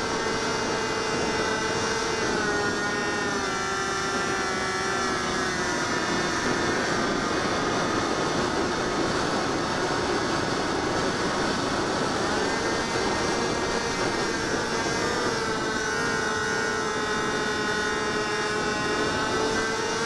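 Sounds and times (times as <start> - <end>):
electric motor and propeller whining: 0.0 - 20.0.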